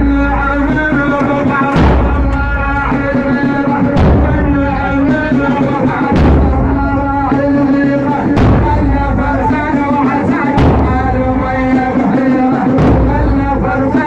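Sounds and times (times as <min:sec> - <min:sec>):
deep booming hit: 0:00.1 - 0:12.0, 0:12.7 - 0:13.8.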